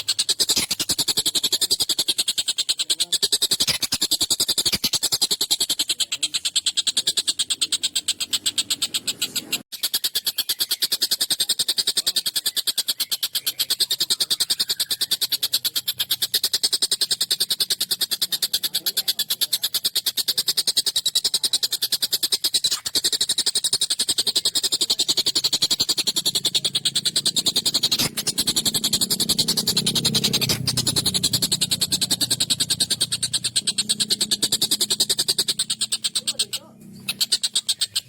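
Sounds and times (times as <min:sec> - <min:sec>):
kingfisher rattling call: 0:00.0 - 0:38.0.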